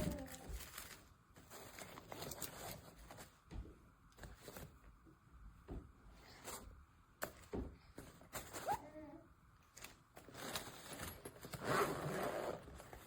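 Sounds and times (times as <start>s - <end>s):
objects being handled: 0.0s - 8.9s, 9.6s - 13.0s.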